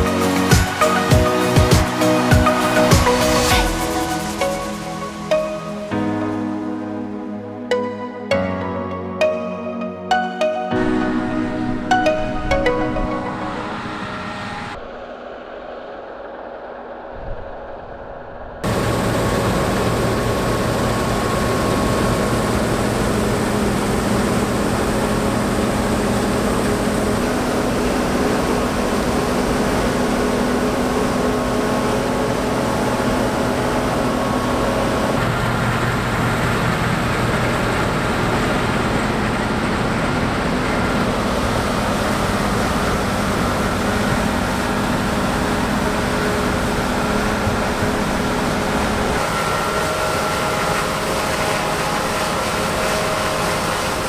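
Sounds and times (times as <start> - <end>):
combine harvester droning: 0.0 - 8.0, 8.6 - 54.0.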